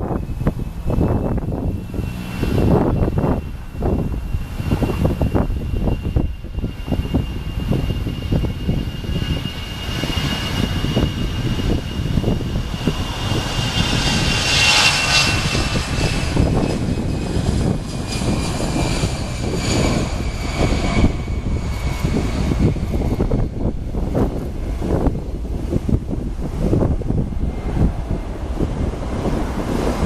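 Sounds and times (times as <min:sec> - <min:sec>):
jet airliner engines passing: 0:00.0 - 0:30.0
wind buffeting microphone: 0:00.0 - 0:30.0.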